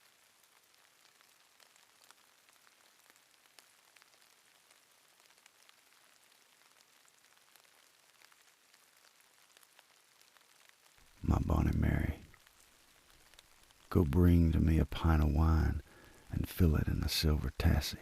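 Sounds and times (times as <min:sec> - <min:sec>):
soft hiss of rain: 0:00.0 - 0:18.0.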